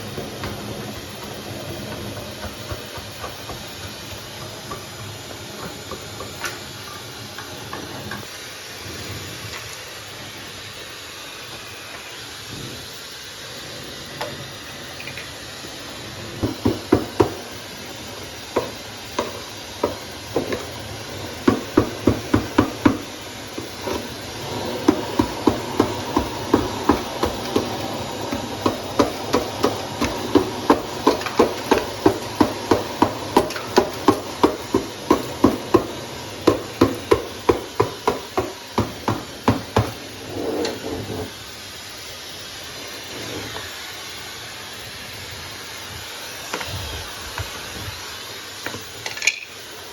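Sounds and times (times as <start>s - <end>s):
hair dryer blowing: 0.0s - 48.9s.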